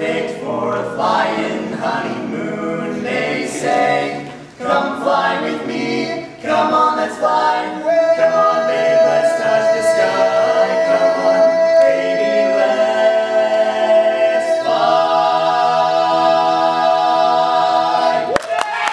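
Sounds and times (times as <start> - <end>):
quartet singing a cappella: 0.0 - 18.3.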